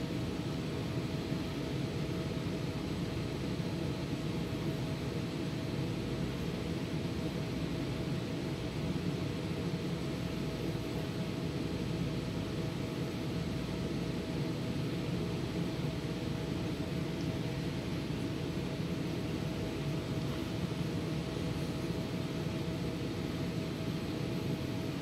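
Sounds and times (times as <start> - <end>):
faint constant tone: 0.0 - 25.0
low mechanical hum: 0.0 - 25.0.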